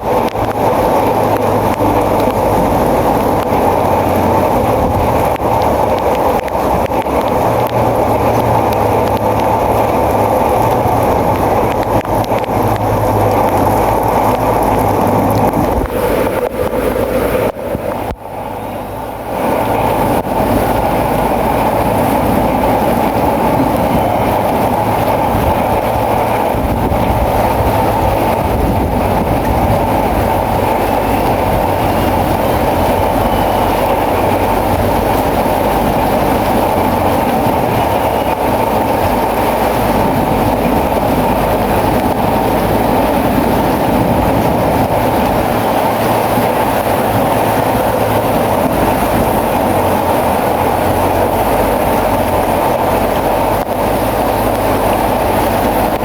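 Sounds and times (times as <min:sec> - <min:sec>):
bulldozer engine: 0:00.0 - 0:56.0.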